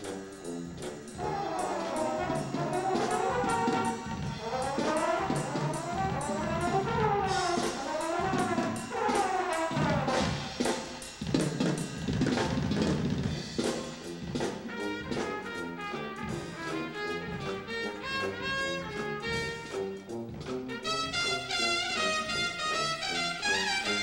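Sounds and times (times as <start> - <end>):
drumline drums striking: 0.0 - 24.0
brass section playing: 1.0 - 12.8, 13.5 - 24.0.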